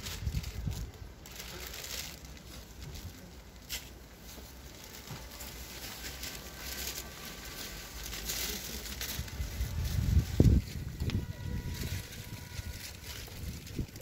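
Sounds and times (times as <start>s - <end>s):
rustling and shuffling of flowers: 0.0s - 14.0s.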